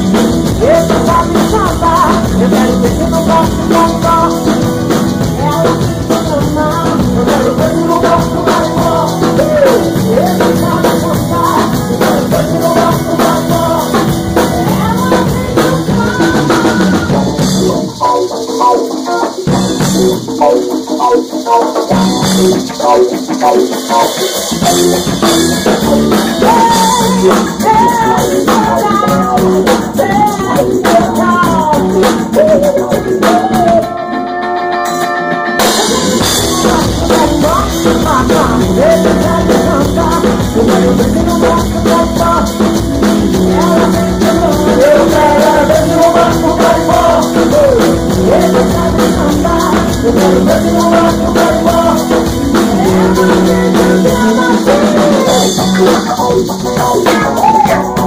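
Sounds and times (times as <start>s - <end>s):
electric bass: 0.0s - 18.0s, 19.5s - 20.4s, 21.9s - 34.3s, 35.6s - 58.0s
congas: 0.0s - 58.0s
drum kit: 0.0s - 58.0s
guitar: 0.0s - 58.0s
person singing: 0.0s - 58.0s.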